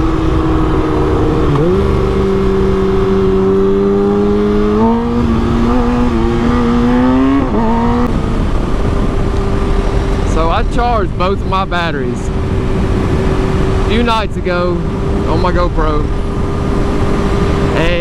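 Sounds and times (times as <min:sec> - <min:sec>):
motorcycle engine accelerating: 0:00.0 - 0:18.0
wind rush: 0:00.0 - 0:18.0.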